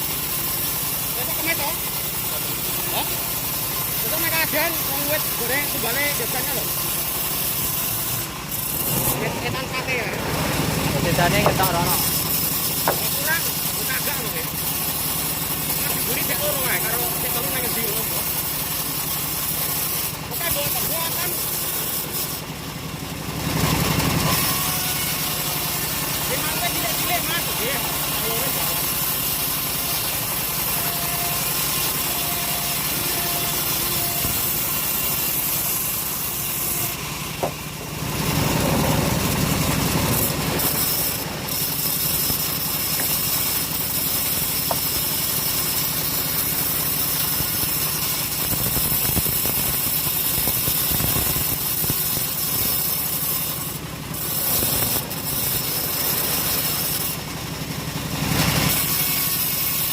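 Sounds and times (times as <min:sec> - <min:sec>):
saw blade hissing through wood: 0:00.0 - 0:22.5, 0:23.7 - 0:57.3, 0:58.3 - 0:59.9
sawmill engine running under load: 0:00.0 - 0:59.9.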